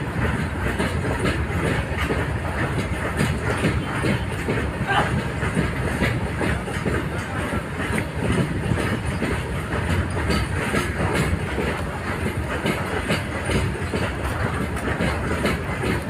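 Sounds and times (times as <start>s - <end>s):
freight train rumble: 0.0s - 16.0s
wheels clickety-clack over track: 0.0s - 16.0s.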